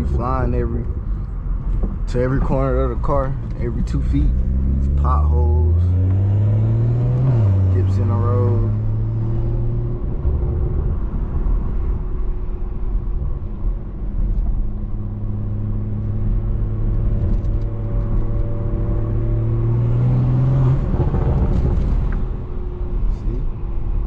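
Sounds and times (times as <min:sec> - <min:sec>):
low road rumble: 0:00.0 - 0:24.0.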